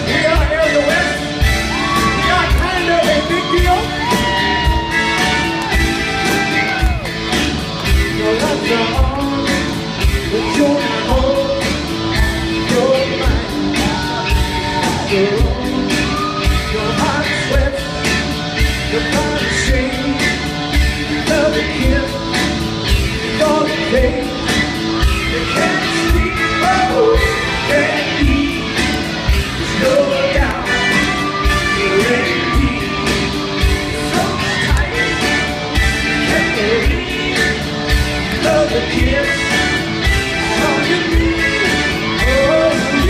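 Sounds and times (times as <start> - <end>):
man singing: 0.0 - 5.3, 7.9 - 43.0
rock band playing: 0.0 - 43.0.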